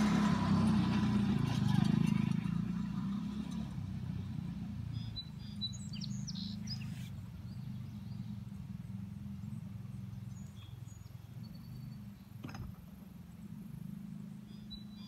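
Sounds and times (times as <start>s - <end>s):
songbird chirping: 1.8s - 15.0s.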